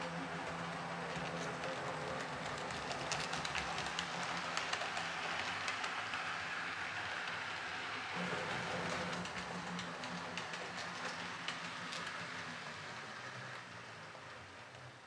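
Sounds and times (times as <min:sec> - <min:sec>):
model train humming: 0:00.0 - 0:15.0
wheels clicking on rail joints: 0:00.0 - 0:15.0.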